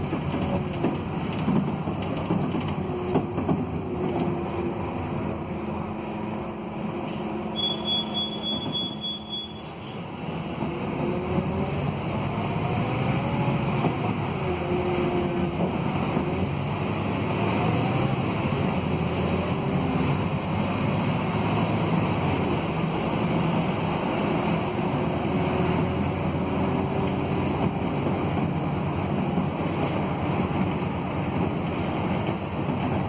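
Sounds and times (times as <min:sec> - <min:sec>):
bus diesel engine running: 0:00.0 - 0:33.0
tyre and road noise: 0:00.0 - 0:33.0.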